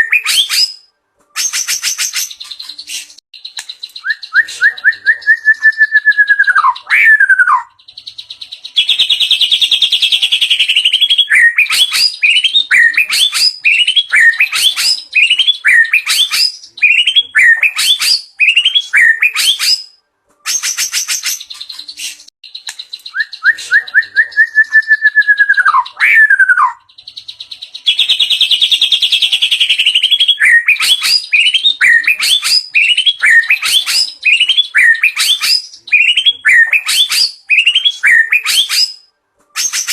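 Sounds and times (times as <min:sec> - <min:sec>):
songbird varied song: 0:00.0 - 0:39.9.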